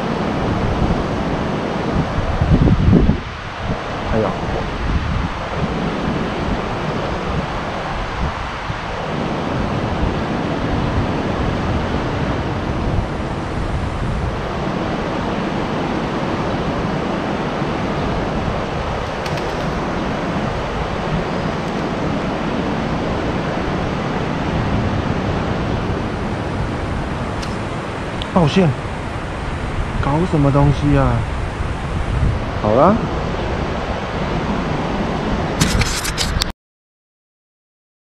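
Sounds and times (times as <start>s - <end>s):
sea surf: 0.0s - 35.6s
wind on microphone: 0.0s - 36.5s.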